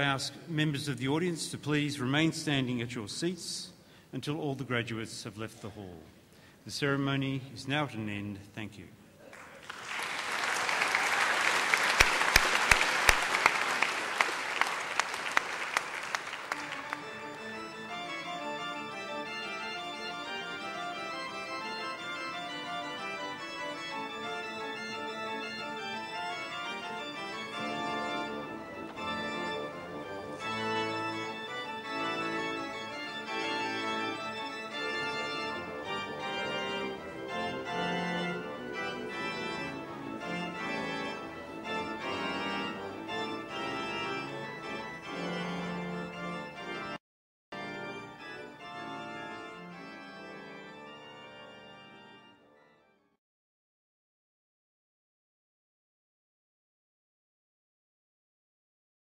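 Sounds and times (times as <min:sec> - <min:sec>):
pipe organ playing chords: 0:00.0 - 0:05.8, 0:10.0 - 0:47.0, 0:47.6 - 0:53.1.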